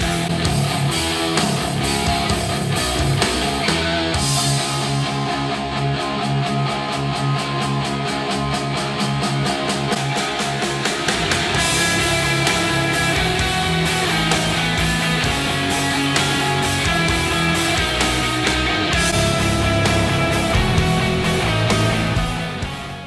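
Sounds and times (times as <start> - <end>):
rock music with guitar: 0.0 - 23.0.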